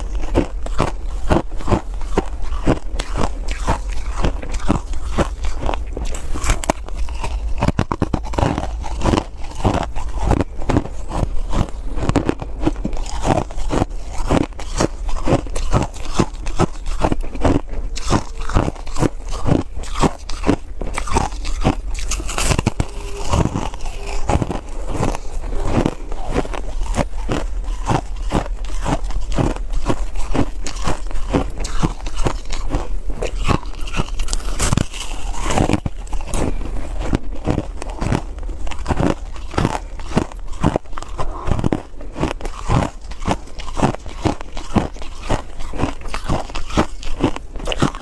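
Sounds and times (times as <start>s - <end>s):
crunching and chewing ice: 0.0s - 48.0s.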